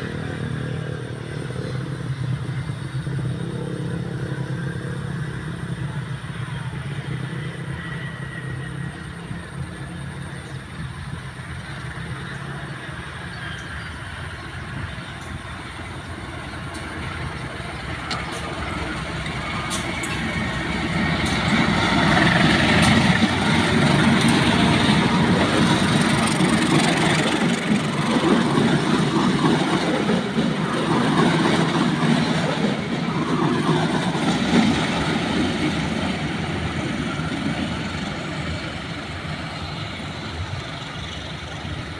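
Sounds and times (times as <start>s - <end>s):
train rumbling: 0.0s - 41.9s.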